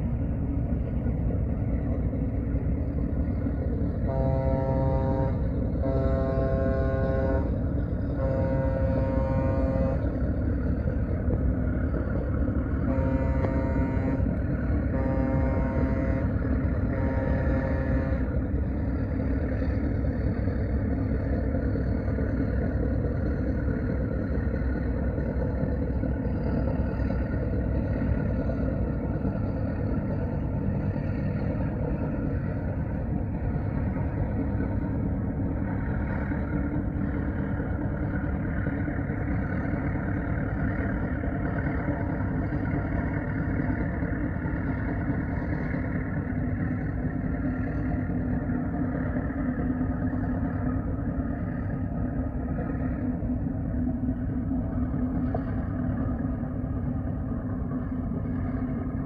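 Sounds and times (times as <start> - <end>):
ship engine rumble: 0.0 - 59.0.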